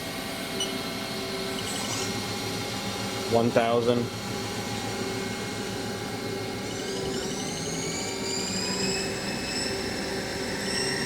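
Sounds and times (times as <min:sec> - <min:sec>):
lathe machine hum: 0:00.0 - 0:11.0
high spindle whine rising: 0:00.4 - 0:11.0.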